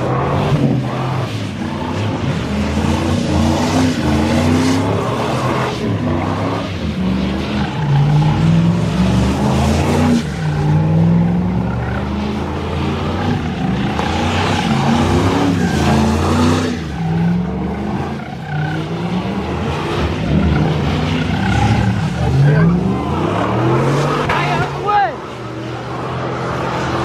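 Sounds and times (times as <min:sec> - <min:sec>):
tyres screeching on pavement: 0:00.0 - 0:26.9
truck engine revving: 0:00.0 - 0:27.0.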